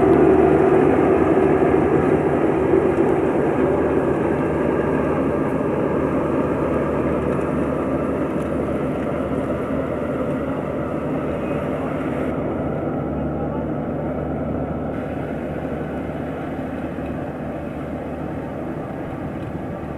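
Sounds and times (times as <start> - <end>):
combine harvester mechanical drone: 0.0 - 19.9.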